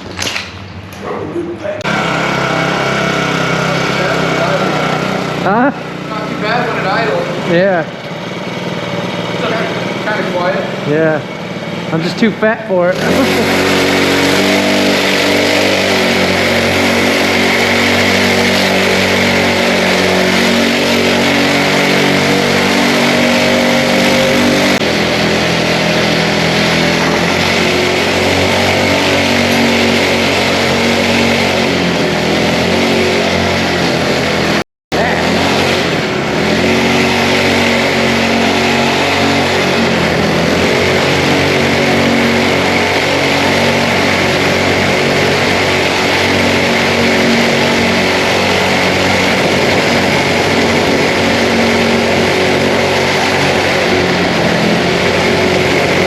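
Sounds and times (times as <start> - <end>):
small bike engine revving: 0.0 - 56.0.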